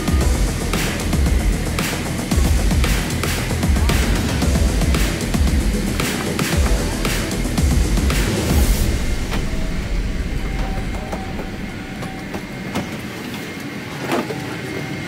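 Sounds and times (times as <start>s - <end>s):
faint cabin hum: 0.0s - 14.8s.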